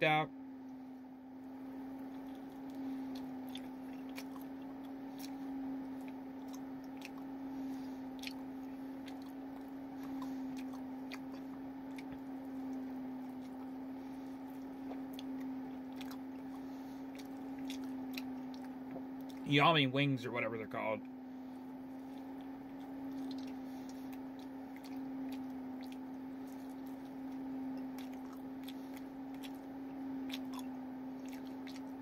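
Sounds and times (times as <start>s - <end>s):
steady low hum: 0.0s - 32.0s
person chewing chicken wings: 2.0s - 13.7s, 14.3s - 19.4s, 22.1s - 32.0s.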